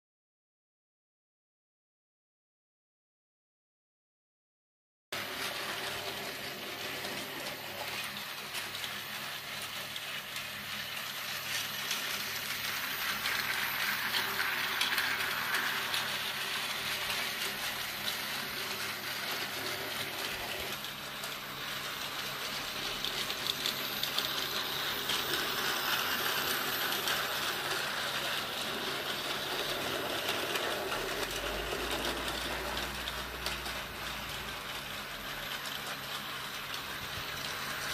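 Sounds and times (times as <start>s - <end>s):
toy train motors whirring: 5.2s - 37.9s.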